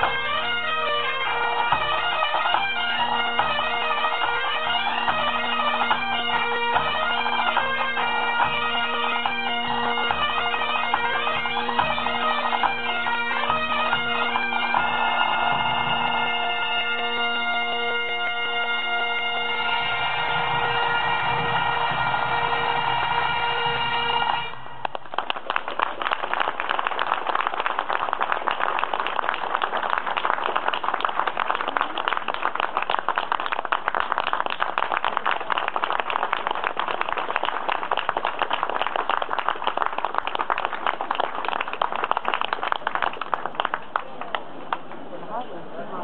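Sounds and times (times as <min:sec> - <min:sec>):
crowd applauding: 0:00.0 - 0:46.0.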